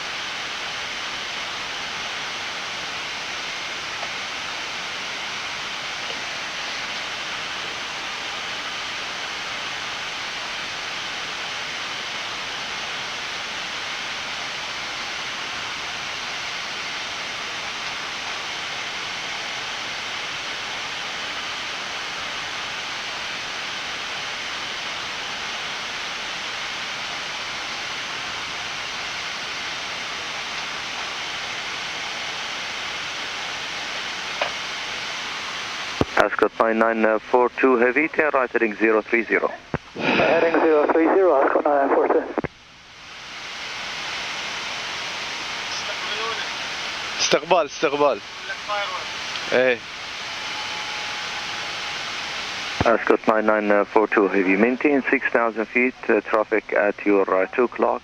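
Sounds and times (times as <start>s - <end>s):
cockpit airflow hiss: 0.0s - 58.0s.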